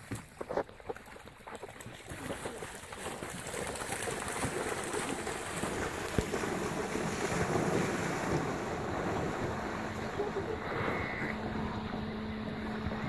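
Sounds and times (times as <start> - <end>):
animals splashing through water: 0.0 - 13.0.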